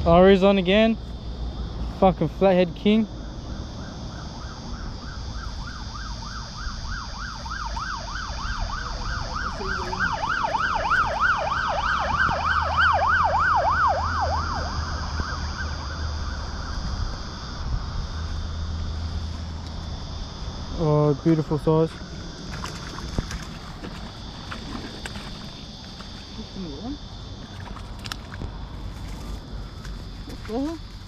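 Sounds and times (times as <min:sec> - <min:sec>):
insects droning: 0:00.0 - 0:31.0
emergency siren yelping: 0:01.4 - 0:27.9.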